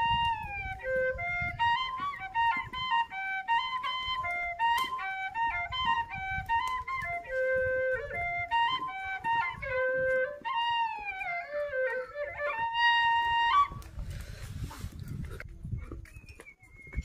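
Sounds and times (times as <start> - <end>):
flute melody: 0.0 - 14.3.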